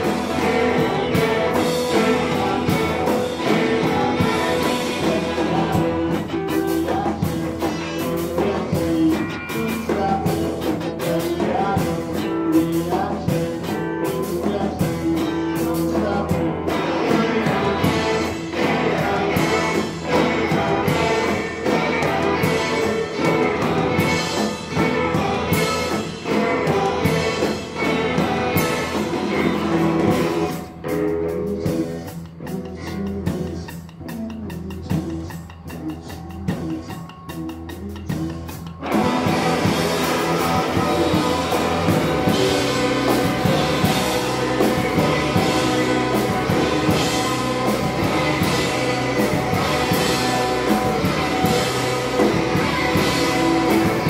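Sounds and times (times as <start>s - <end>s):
drums: 0.0s - 54.0s
electric guitar: 0.0s - 54.0s
person singing: 0.0s - 54.0s.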